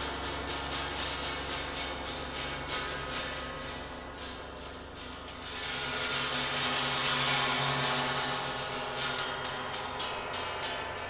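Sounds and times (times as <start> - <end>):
gong rubbed with mallet: 0.0 - 11.0.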